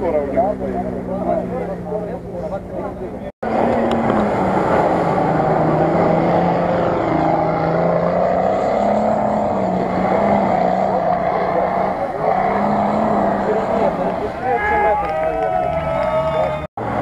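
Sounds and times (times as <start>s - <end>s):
vehicle engine revving high: 0.0s - 17.0s.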